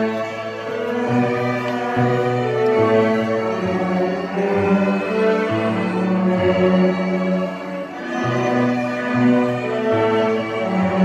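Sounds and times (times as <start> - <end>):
string orchestra playing: 0.0 - 11.0.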